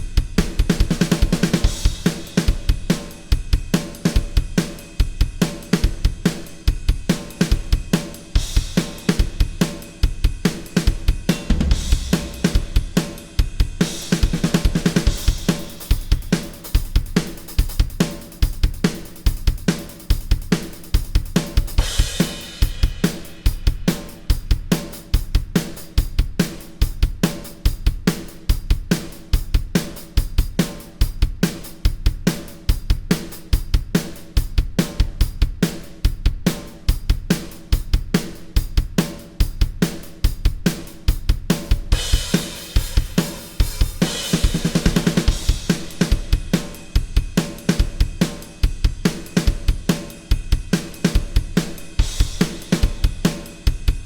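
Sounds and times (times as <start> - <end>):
rock drum groove: 0.0 - 54.0.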